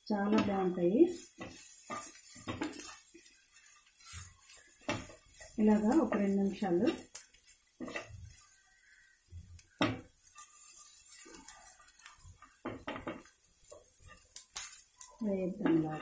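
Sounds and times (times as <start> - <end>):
spatula scraping a pan: 0.6 - 16.0.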